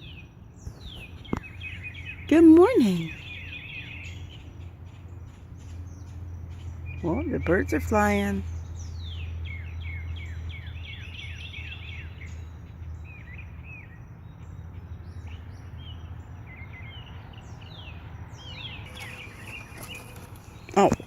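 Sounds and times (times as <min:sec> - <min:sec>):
songbirds singing whistled notes: 0:00.0 - 0:21.0.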